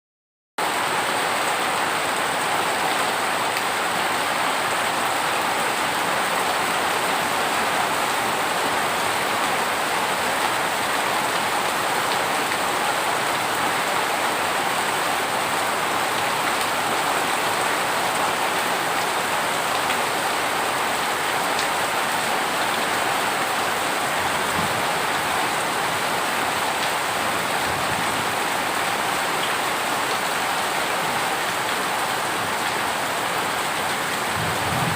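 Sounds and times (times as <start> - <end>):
heavy rain falling: 0.6 - 34.9.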